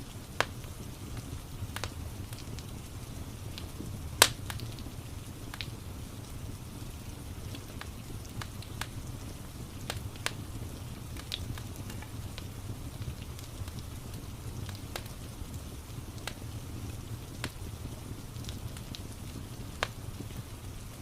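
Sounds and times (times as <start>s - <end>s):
rain hiss: 0.0s - 21.0s
wood fire crackling and popping: 0.0s - 21.0s.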